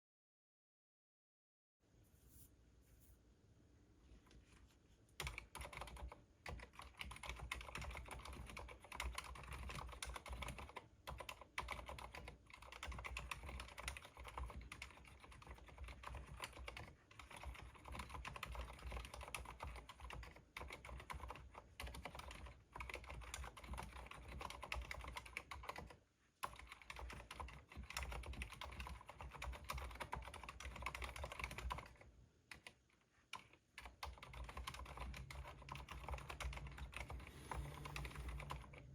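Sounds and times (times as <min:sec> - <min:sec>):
mechanical keyboard typing: 0:05.2 - 0:38.9.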